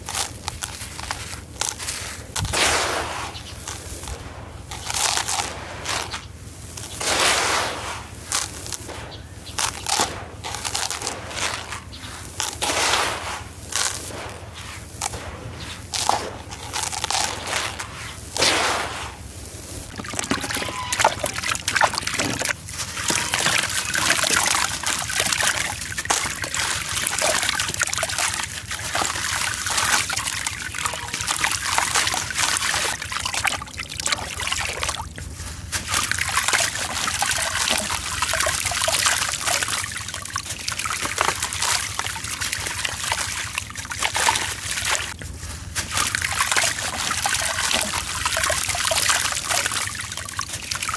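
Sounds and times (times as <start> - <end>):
dry grit crunching through fingers: 0.0 - 50.9
wet grit splashing into water: 0.0 - 50.9.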